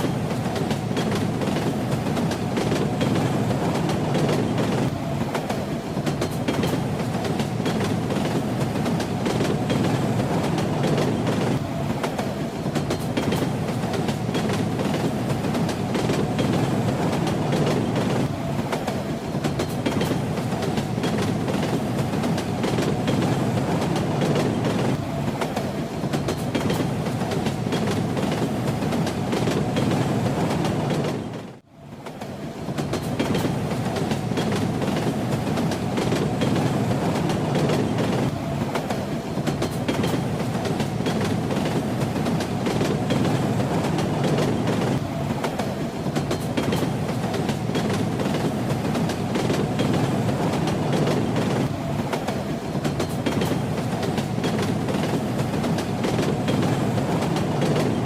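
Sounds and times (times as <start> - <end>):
train rumble: 0.0 - 58.0
train wheels clattering: 0.0 - 58.0.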